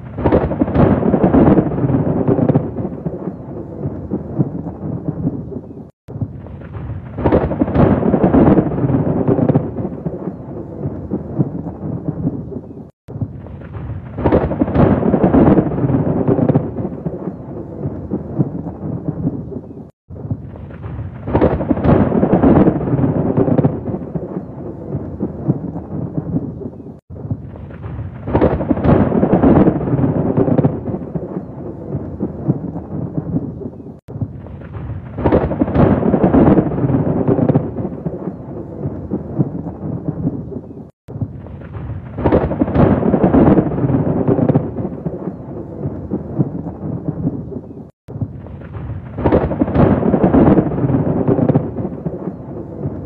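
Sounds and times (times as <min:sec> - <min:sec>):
thunder rumbling: 0:00.0 - 0:53.0.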